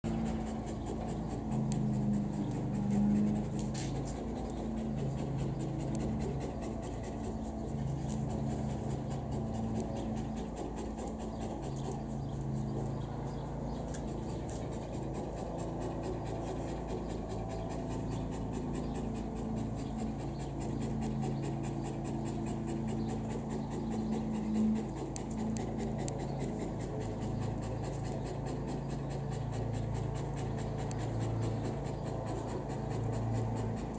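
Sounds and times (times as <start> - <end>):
dogs growling: 0.0 - 33.9
dogs panting: 0.0 - 33.9.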